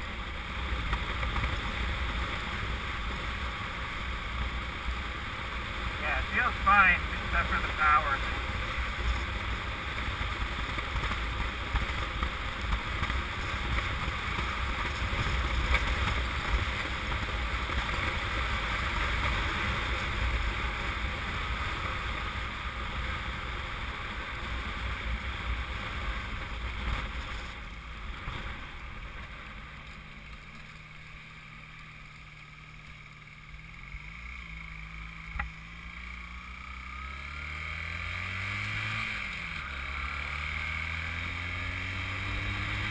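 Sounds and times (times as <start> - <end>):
motorcycle engine: 0.0 - 42.9
wind and road noise: 0.0 - 42.9.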